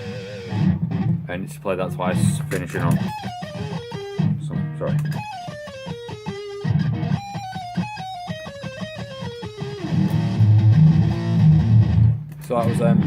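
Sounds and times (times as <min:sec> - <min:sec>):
electric guitar rock riff: 0:00.0 - 0:13.0.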